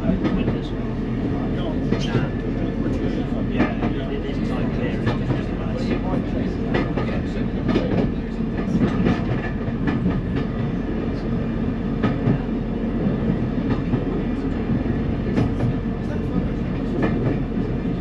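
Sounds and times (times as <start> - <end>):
railcar running gear rumble and hum: 0.0 - 18.0.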